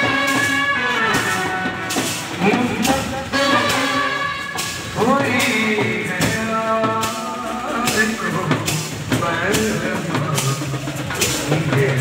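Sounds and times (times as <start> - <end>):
brass band playing loudly: 0.0 - 12.0.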